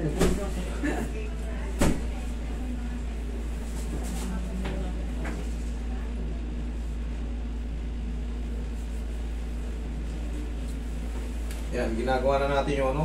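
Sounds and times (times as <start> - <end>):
air conditioner hum and hiss: 0.0 - 13.0.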